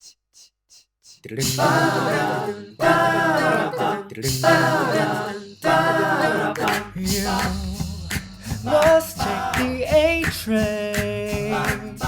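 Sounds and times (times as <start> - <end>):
a cappella voices singing harmony: 1.2 - 12.0.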